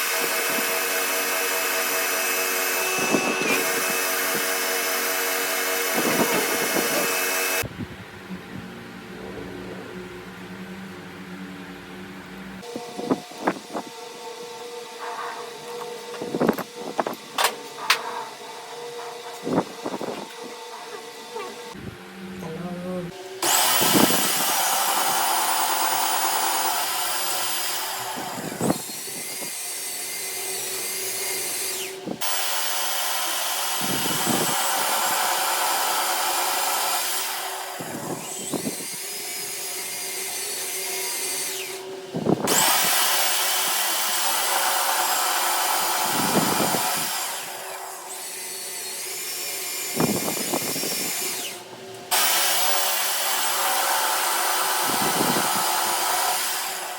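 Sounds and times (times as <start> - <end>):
power tool motor whining: 0.0 - 7.7, 12.6 - 21.8, 23.1 - 56.9.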